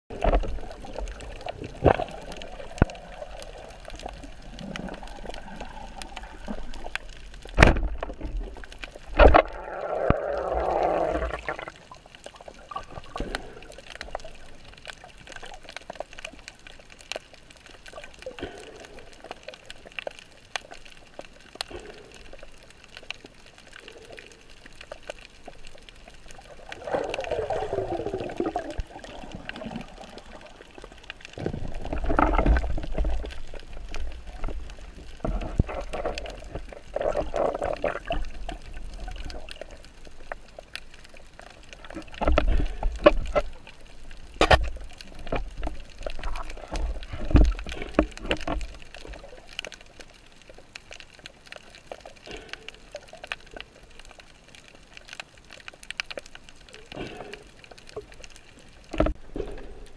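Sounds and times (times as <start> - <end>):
bubbling gurgles: 0.1 - 50.2
underwater hiss with crackle: 0.1 - 59.9.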